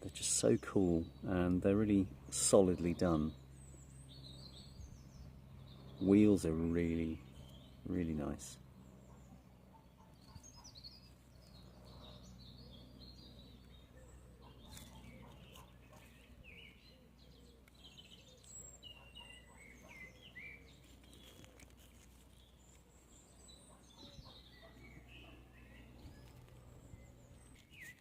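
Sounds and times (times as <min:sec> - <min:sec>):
small birds chirping and trilling: 0:00.0 - 0:28.0
steady low hum: 0:00.0 - 0:28.0.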